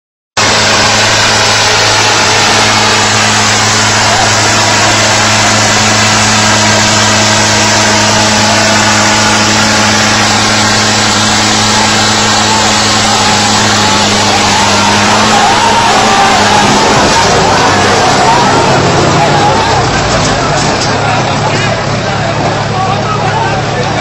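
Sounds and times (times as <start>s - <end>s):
tractor diesel engines under load: 0.4s - 24.0s
faint voices: 0.8s - 24.0s.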